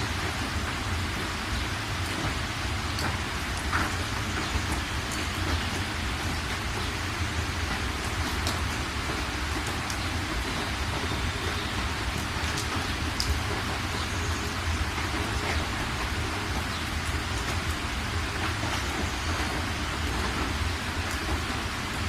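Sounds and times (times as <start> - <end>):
rain pattering on surfaces: 0.0 - 22.0.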